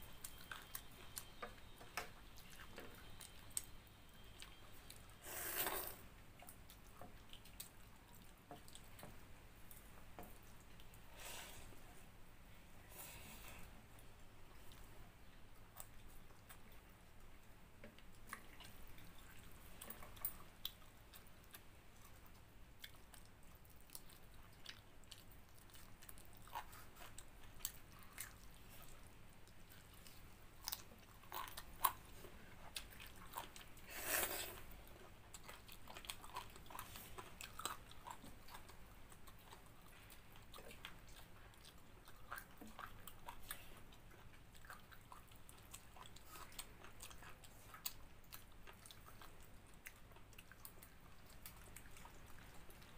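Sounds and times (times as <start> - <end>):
person chewing food: 0.0 - 11.9, 12.9 - 52.9.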